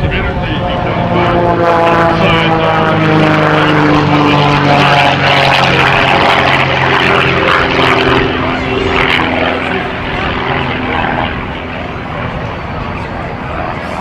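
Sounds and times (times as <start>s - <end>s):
biplane engine passing by: 0.0s - 14.0s.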